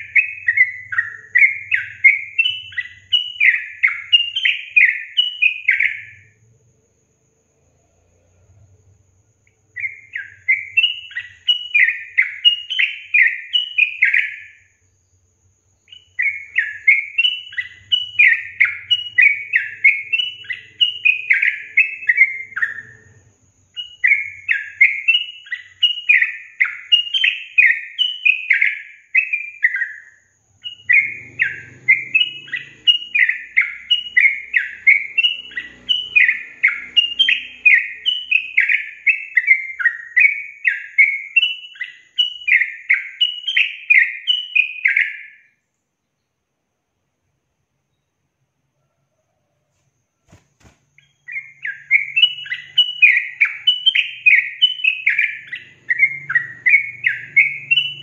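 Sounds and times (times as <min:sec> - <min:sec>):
bulbul singing: 0:00.0 - 0:07.2, 0:08.0 - 0:46.4, 0:50.2 - 0:58.0.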